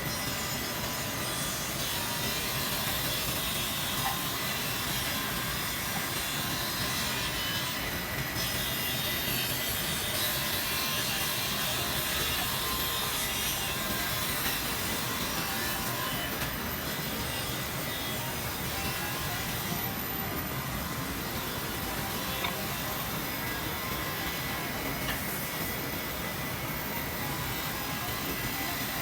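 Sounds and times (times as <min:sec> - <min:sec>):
saw cutting through wood: 0:00.0 - 0:29.0.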